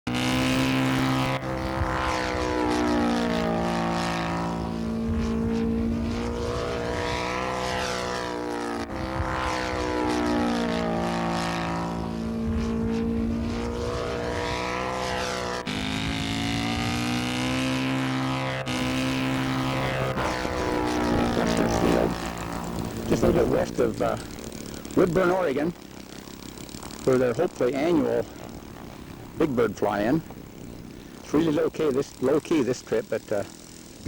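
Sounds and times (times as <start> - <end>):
model airplane engine flying past: 0.1 - 34.0.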